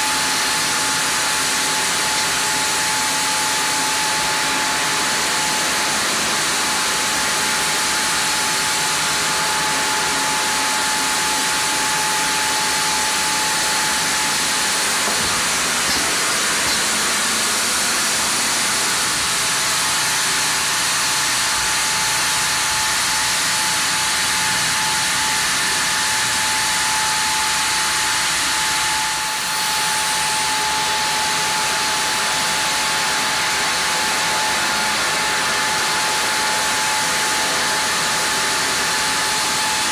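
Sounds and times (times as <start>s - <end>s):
band sawmill cutting a log: 0.0s - 39.9s.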